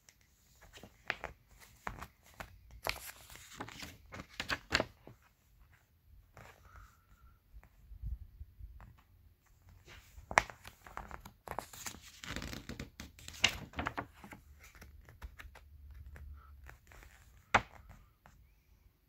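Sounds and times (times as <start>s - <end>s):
paper pages rustling: 0.0s - 6.8s, 8.8s - 18.1s.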